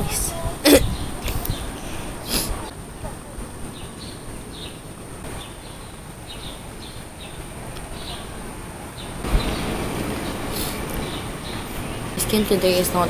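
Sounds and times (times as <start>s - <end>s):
rush of noise: 0.0s - 13.0s
small birds chirping: 0.0s - 13.0s.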